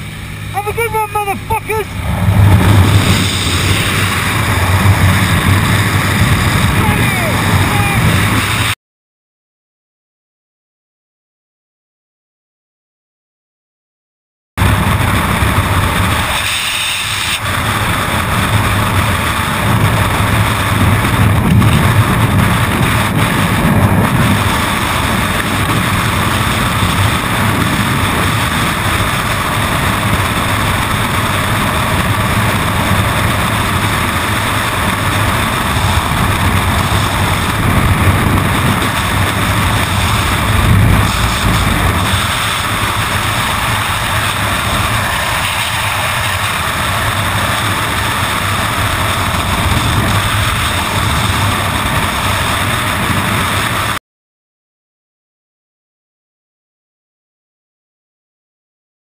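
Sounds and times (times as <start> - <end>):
wind rushing over microphone: 0.0 - 8.8, 14.6 - 54.0.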